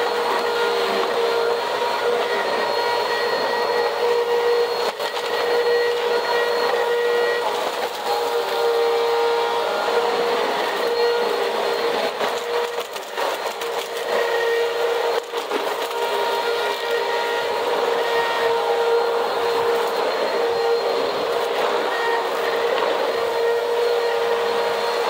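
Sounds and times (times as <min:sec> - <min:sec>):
vacuum cleaner motor whine: 0:00.0 - 0:25.0.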